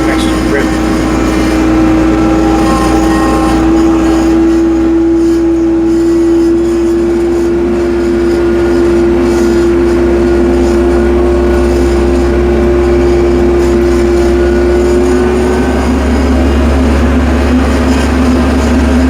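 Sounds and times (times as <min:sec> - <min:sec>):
tractor engine whine: 0:00.0 - 0:19.0.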